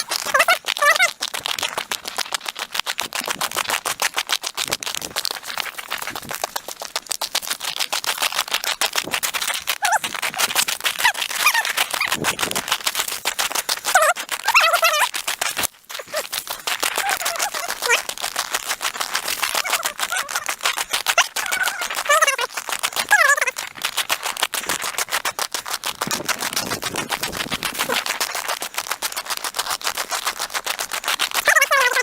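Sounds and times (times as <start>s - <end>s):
snow squeaks: 0.0s - 1.9s, 5.0s - 6.8s, 7.4s - 32.0s.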